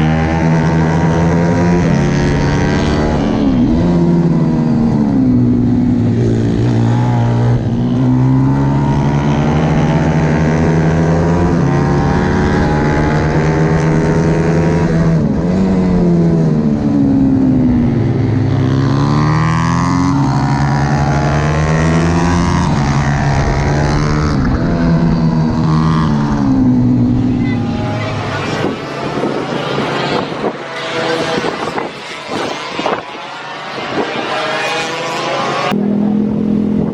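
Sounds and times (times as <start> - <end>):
pit bike engine revving: 0.0 - 36.3.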